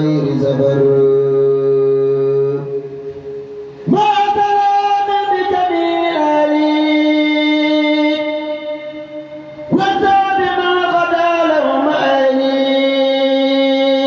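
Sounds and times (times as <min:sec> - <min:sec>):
man chanting: 0:00.0 - 0:03.0, 0:03.8 - 0:14.0.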